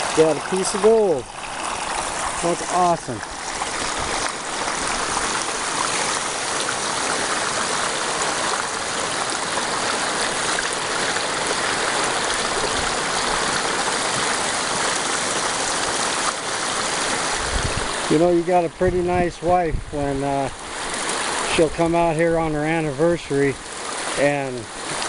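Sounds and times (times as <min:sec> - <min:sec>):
water rushing through sluice box: 0:00.0 - 0:25.0.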